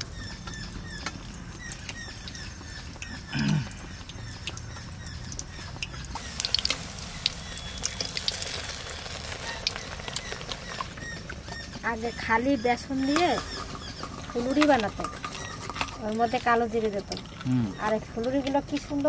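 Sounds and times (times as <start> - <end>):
hot oil crackling and spitting: 0.0 - 19.0
low steady background hum: 0.0 - 19.0.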